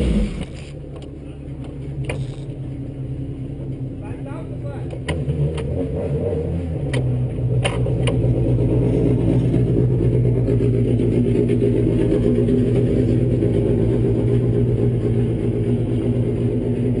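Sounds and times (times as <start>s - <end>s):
racing car engines idling: 0.0s - 5.7s, 6.7s - 17.0s.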